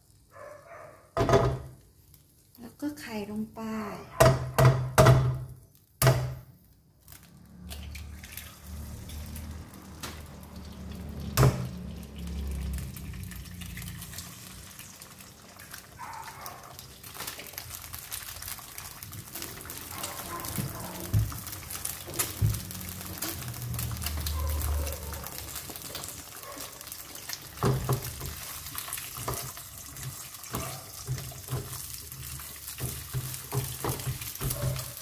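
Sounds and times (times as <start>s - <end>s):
eggs sizzling in oil: 1.1s - 35.0s
egg cracking: 4.6s - 35.0s.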